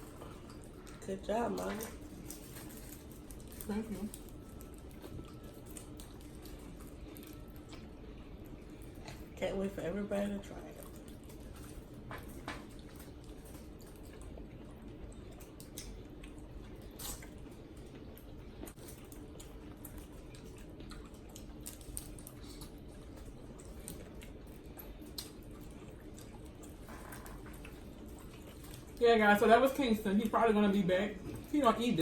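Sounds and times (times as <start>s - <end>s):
wet chewing and smacking: 0.0s - 9.4s, 10.1s - 32.0s
faint steady hum: 0.0s - 32.0s.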